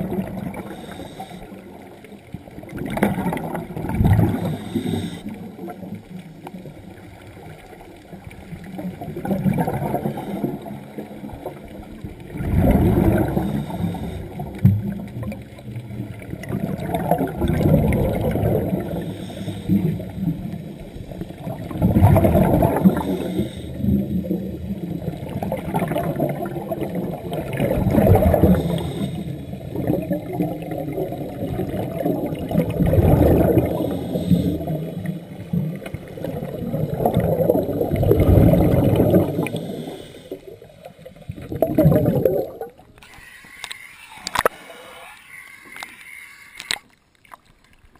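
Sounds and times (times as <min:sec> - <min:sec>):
low water rumble: 0:00.0 - 0:47.9
regulator bubbles gurgling: 0:00.0 - 0:47.9.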